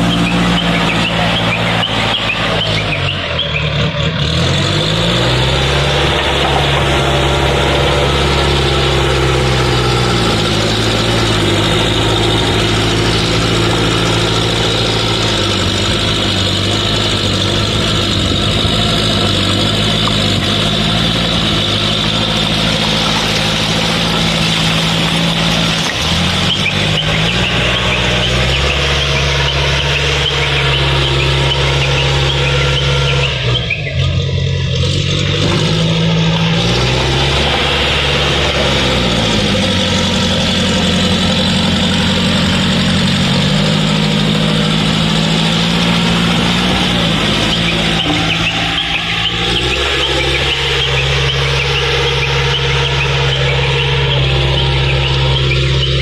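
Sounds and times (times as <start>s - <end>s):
diesel engine running loud: 0.0s - 56.0s.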